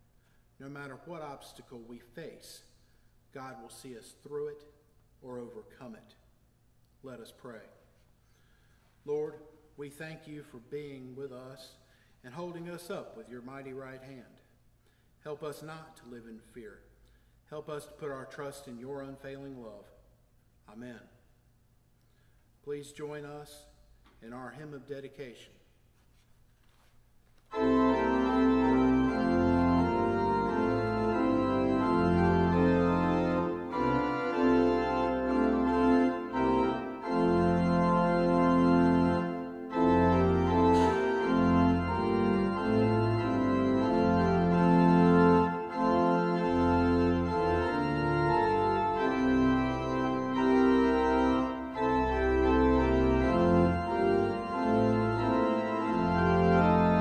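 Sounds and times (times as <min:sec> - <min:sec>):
organ playing a hymn: 0:00.0 - 0:04.7, 0:07.0 - 0:19.9, 0:22.4 - 0:25.4, 0:26.7 - 0:57.0.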